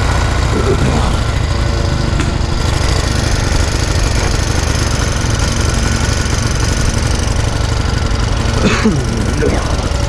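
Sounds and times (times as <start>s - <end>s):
small engine idling: 0.0s - 10.0s.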